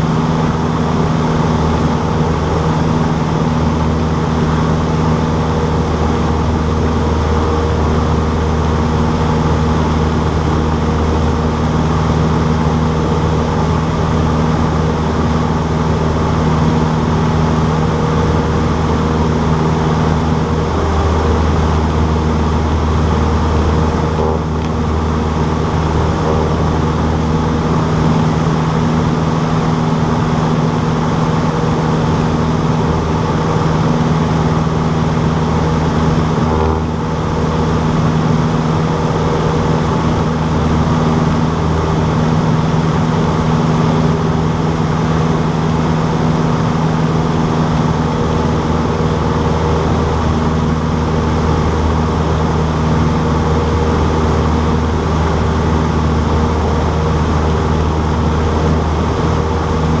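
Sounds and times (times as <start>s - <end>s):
light aircraft engine droning: 0.0s - 60.0s.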